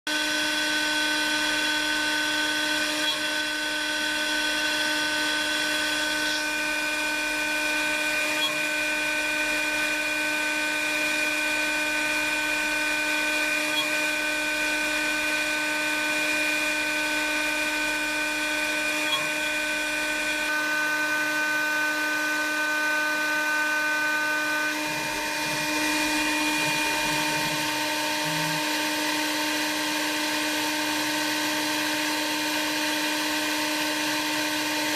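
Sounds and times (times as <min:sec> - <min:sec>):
cutter milling wood: 0:00.1 - 0:34.9
milling machine spindle whine: 0:00.1 - 0:34.9.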